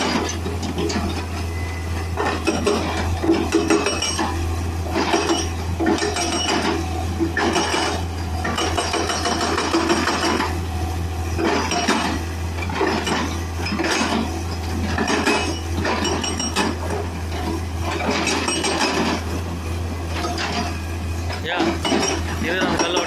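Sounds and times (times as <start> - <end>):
hydraulic breaker pounding rock: 0.0 - 23.0.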